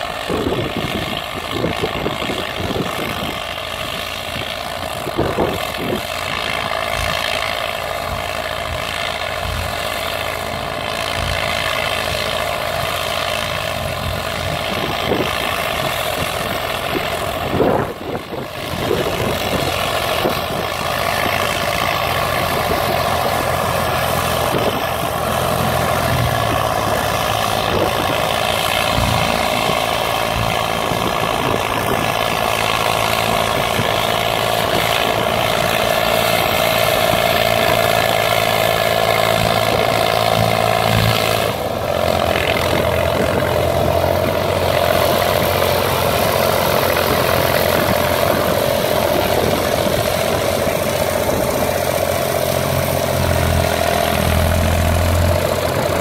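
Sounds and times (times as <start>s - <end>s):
tractor engines under load: 0.0s - 56.0s.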